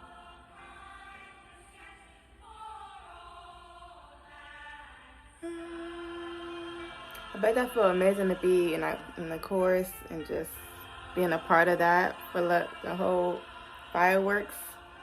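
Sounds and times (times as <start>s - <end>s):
choir singing sustained chords: 0.0s - 15.0s
single steady sung note: 0.0s - 15.0s.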